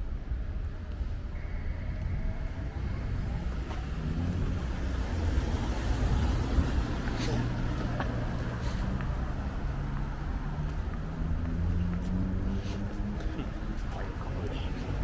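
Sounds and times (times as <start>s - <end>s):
low traffic rumble: 0.0s - 15.0s
car driving past: 1.4s - 15.0s.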